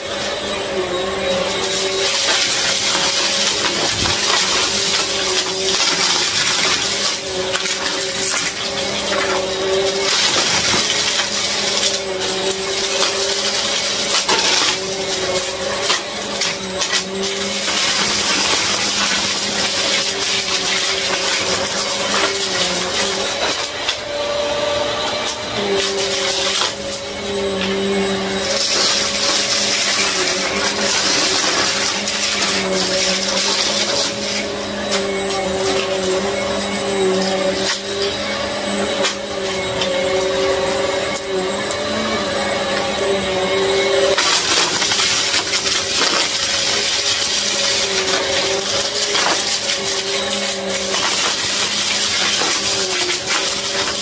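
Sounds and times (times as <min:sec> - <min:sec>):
vacuum cleaner on carpet: 0:00.0 - 0:54.0.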